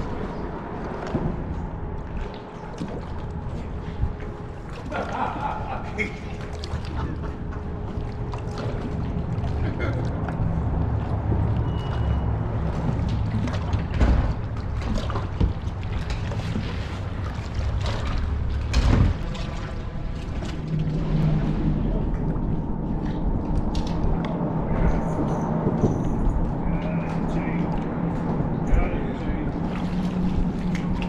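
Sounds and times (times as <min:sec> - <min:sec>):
steady low hum: 0:00.0 - 0:31.0
water slapping against boat hull: 0:00.0 - 0:31.0.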